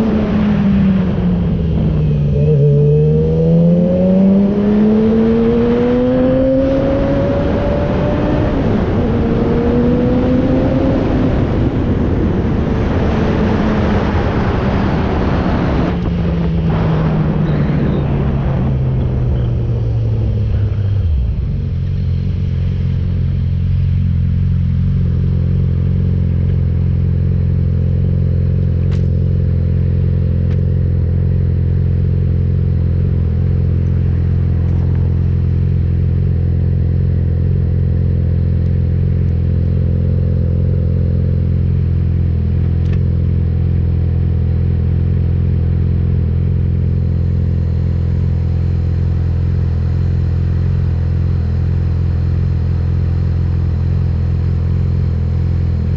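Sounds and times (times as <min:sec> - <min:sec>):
motorcycle engine running steadily: 0:00.0 - 0:55.9.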